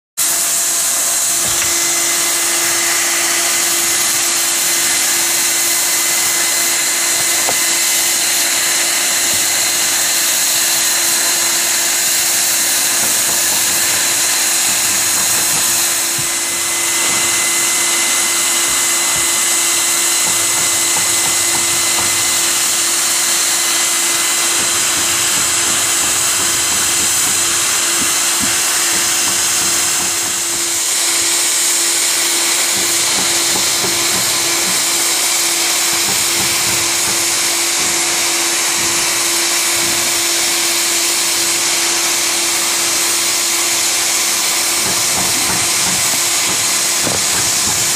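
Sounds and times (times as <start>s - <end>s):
hot-air welder blower hiss: 0.2s - 47.9s.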